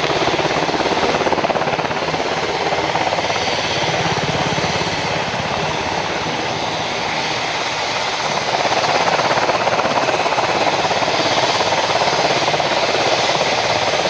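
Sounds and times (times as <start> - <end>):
helicopter rotor chop: 0.0 - 14.0.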